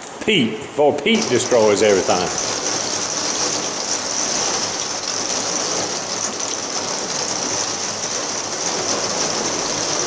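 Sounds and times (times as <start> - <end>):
heavy rain falling: 1.1 - 10.0.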